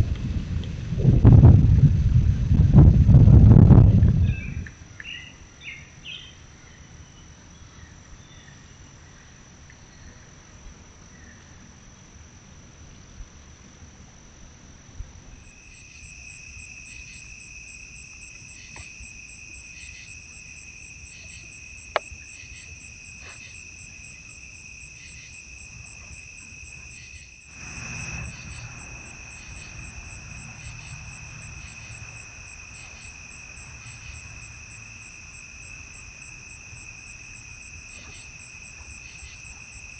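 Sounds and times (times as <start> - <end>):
night insects trilling: 0.3 - 39.9.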